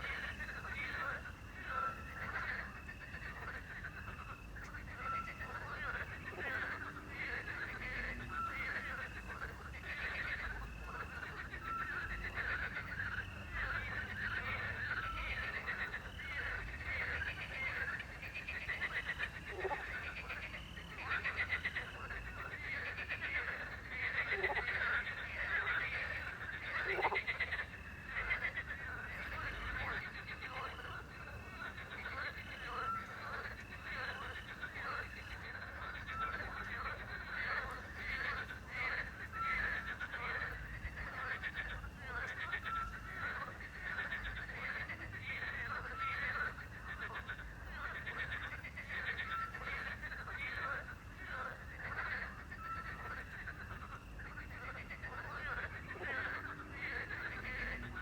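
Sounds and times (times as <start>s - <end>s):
frogs croaking: 0.0s - 58.0s.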